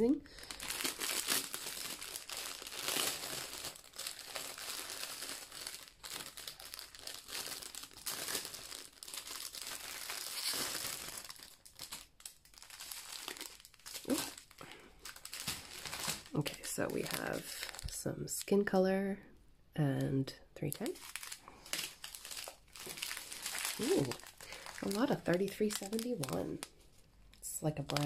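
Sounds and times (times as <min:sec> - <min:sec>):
plastic bag crinkling: 0:00.0 - 0:18.5, 0:20.6 - 0:28.0.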